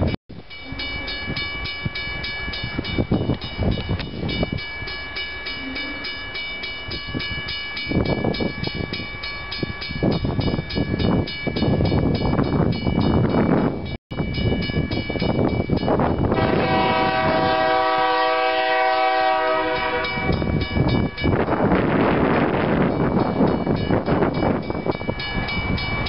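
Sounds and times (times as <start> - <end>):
diesel locomotive approaching: 0.0 - 26.0
wind buffeting microphone: 0.0 - 26.0.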